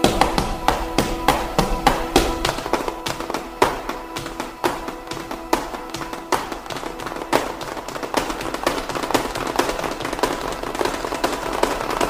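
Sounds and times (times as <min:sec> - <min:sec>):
sharp bangs and crackles: 0:00.0 - 0:12.0
steady sustained tone: 0:00.0 - 0:12.0.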